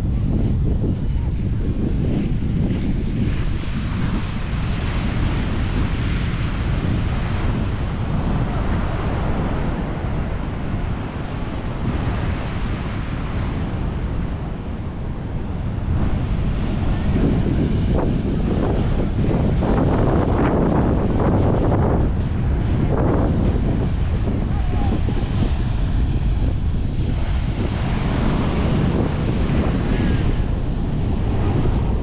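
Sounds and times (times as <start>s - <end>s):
wind buffeting microphone: 0.0s - 32.0s
ocean surf breaking: 3.4s - 32.0s.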